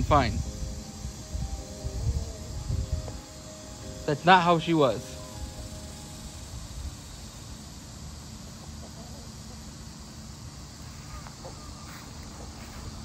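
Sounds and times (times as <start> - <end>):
faint even hum: 0.0 - 13.0.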